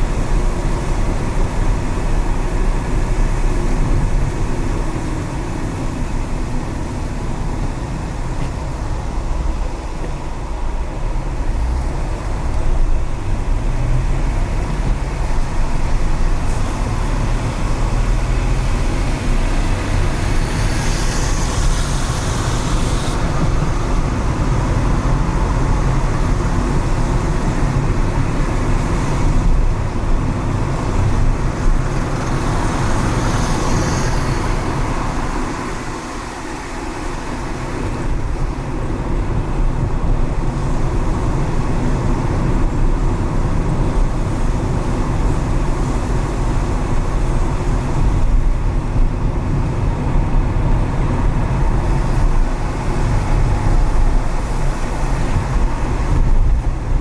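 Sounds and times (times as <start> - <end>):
car road and engine rumble: 0.0 - 57.0
tyre noise on wet road: 0.0 - 57.0.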